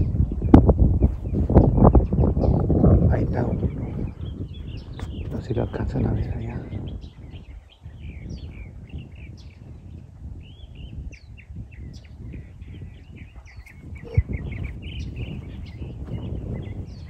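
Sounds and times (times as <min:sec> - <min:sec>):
wild birds chirping: 0:00.0 - 0:17.0
wind on microphone: 0:00.0 - 0:17.0.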